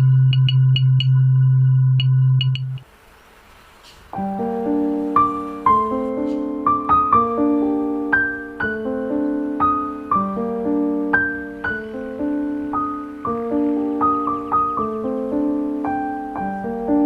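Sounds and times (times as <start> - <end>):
gentle piano melody: 0.0 - 2.8, 4.1 - 17.0.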